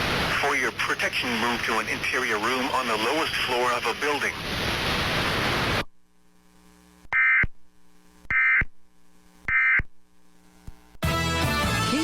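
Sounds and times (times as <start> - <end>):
broadcast hiss: 0.0 - 11.0.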